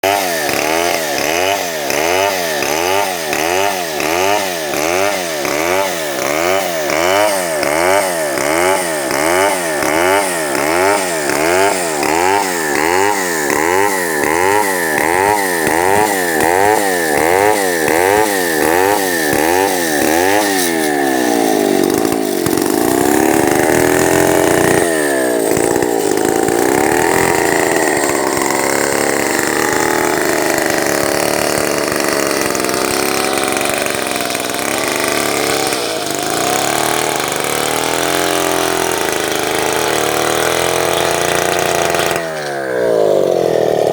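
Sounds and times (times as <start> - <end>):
chainsaw engine revving: 0.0 - 43.9.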